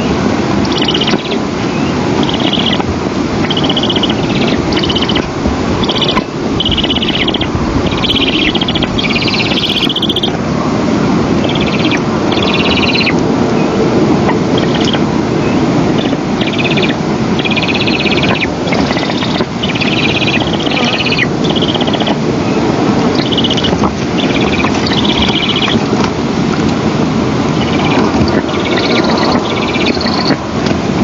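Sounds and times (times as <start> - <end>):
low rushing noise: 0.0 - 31.0.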